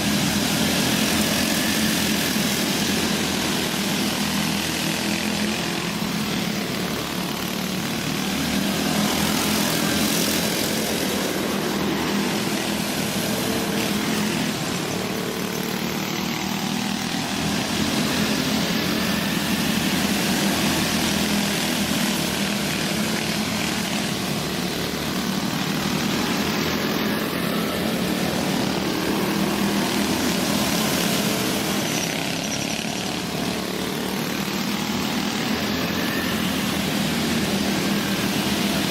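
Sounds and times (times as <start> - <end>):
go-kart engines racing: 0.0 - 38.9.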